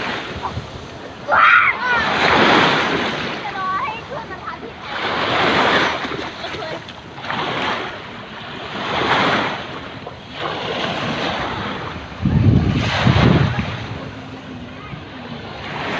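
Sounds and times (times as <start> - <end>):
sea waves washing onto shore: 0.0 - 15.9.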